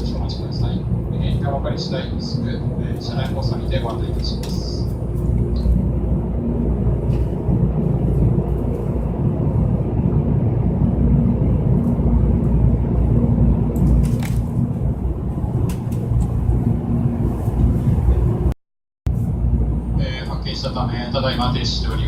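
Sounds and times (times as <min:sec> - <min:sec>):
train equipment rumble and hum: 0:00.0 - 0:22.0.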